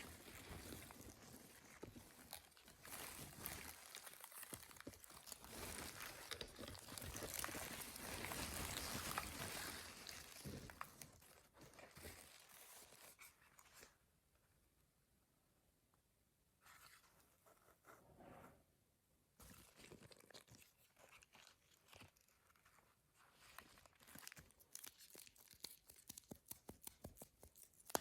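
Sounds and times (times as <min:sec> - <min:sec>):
crinkly material crunching: 0:00.0 - 0:14.0, 0:19.4 - 0:28.0.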